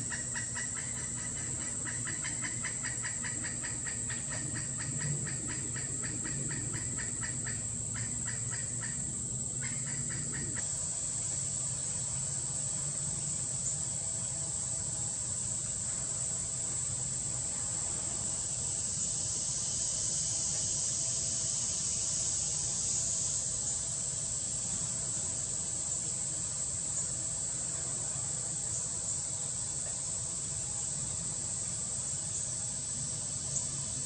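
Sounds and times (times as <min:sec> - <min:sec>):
insect chorus drone: 0:00.0 - 0:34.0.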